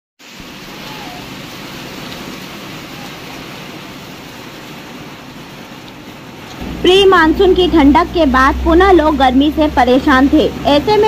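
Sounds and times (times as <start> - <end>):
heavy rain falling: 0.2 - 11.0.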